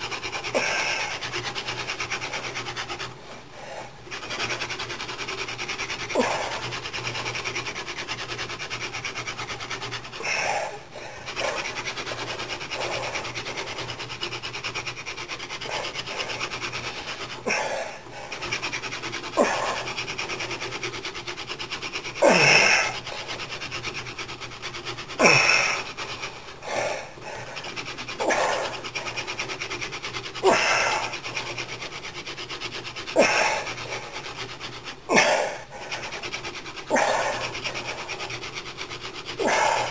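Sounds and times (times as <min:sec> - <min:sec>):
wooden hand drill grinding: 0:00.0 - 0:39.9.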